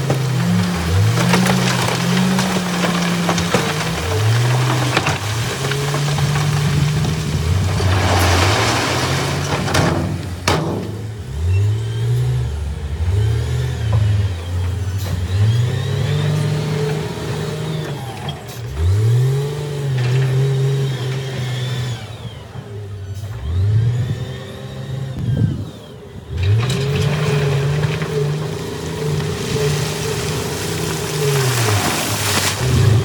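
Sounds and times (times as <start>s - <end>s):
heavy machinery diesel engine revving: 0.0s - 33.0s.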